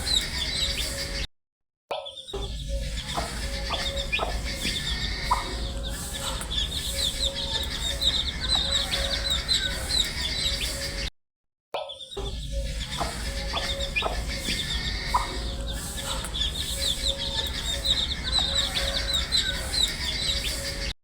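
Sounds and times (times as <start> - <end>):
baby chicks peeping: 0.0 - 1.2, 2.3 - 11.1, 12.1 - 21.0.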